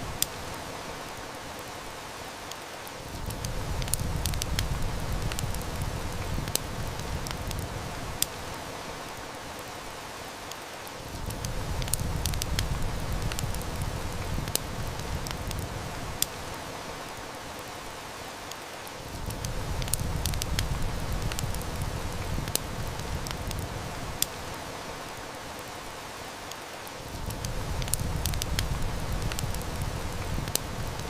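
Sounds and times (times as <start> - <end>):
heavy rain hiss: 0.0 - 31.0
wood fire crackling: 0.0 - 31.0.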